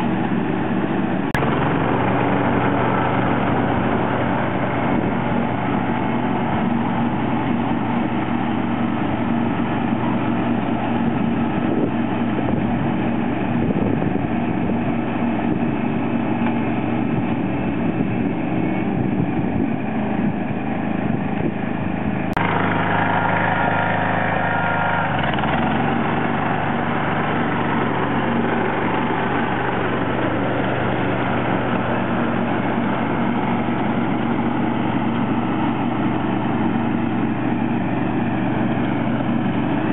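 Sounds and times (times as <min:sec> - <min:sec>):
lawn tractor engine mowing: 0:00.0 - 0:39.9.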